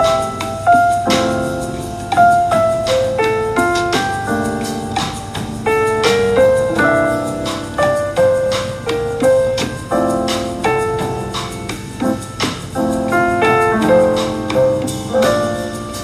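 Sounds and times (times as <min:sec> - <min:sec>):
lounge jazz piano: 0:00.0 - 0:16.0.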